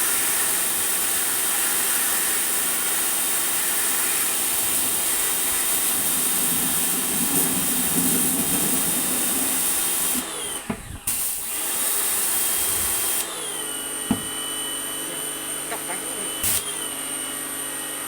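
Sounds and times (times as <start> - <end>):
pressure washer water jet hissing: 0.0 - 17.2.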